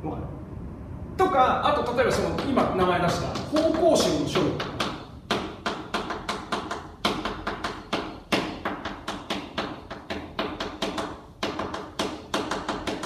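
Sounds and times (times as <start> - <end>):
chalk tapping on blackboard: 2.2 - 13.0.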